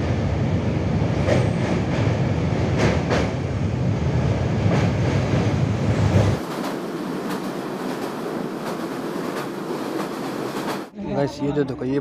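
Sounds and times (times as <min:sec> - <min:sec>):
train wheels rumbling on rails: 0:00.0 - 0:10.9.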